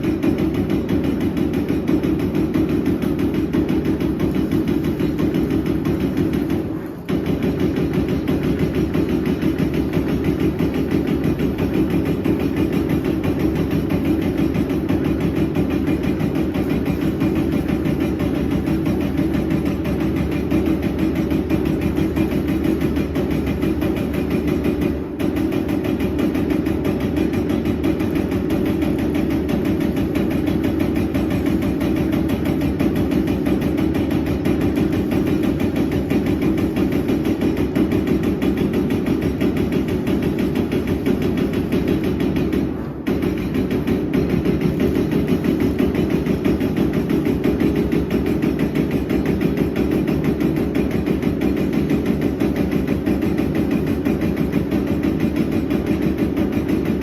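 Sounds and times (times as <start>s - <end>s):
punch press rapid punch strokes: 0.0s - 57.0s.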